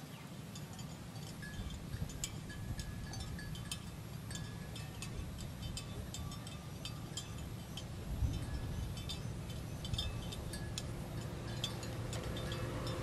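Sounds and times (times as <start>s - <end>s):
small bells clinking: 0.4s - 13.0s
steady low rumble: 0.7s - 13.0s.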